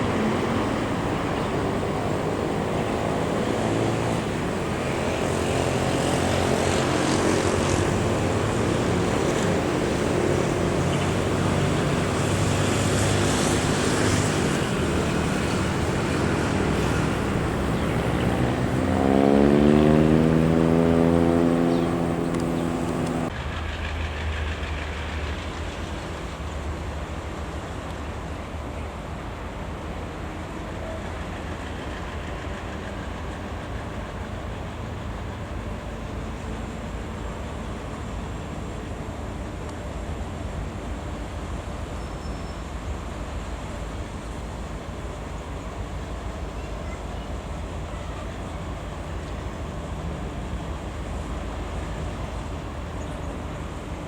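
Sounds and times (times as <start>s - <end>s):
diesel locomotive engine revving: 0.0s - 54.0s
low rumble of a train: 0.0s - 54.0s.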